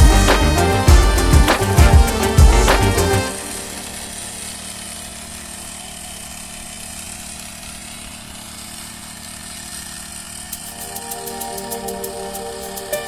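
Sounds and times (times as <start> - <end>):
small four-stroke engine running: 0.0 - 11.1.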